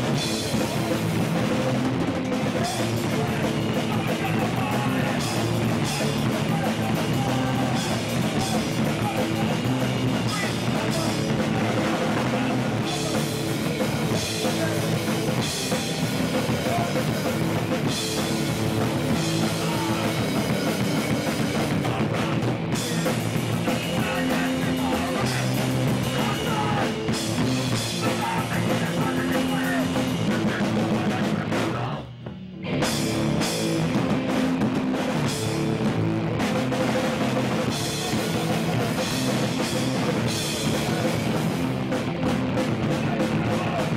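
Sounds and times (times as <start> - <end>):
punk band playing live: 0.0 - 43.9.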